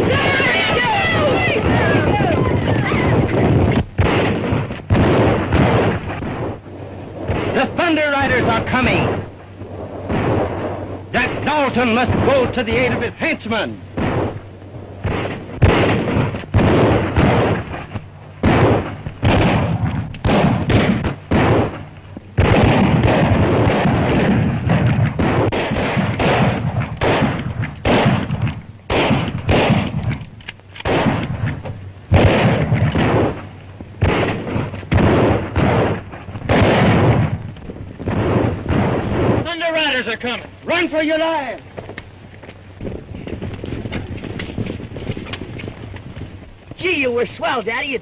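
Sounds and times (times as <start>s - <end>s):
gunshots: 0.0s - 41.6s.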